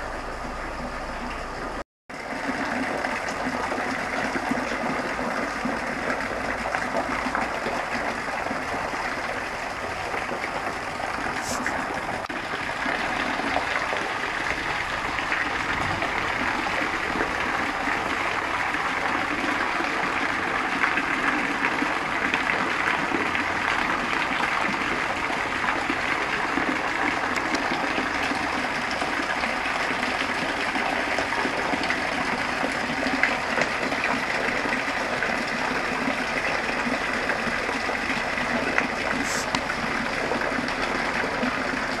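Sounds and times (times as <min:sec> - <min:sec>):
waterfall splashing onto stone: 0:02.3 - 0:42.0.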